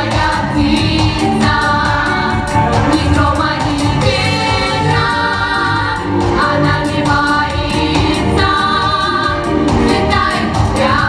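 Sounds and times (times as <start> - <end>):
girls singing together: 0.0 - 11.0
pop backing track with beat: 0.0 - 11.0.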